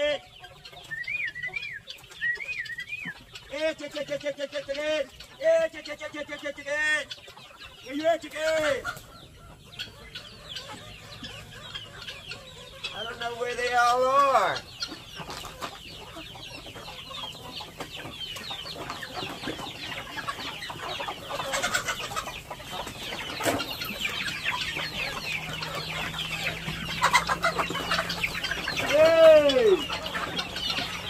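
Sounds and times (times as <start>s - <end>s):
chickens clucking: 0.0s - 31.0s
loud chicken call: 0.0s - 31.0s.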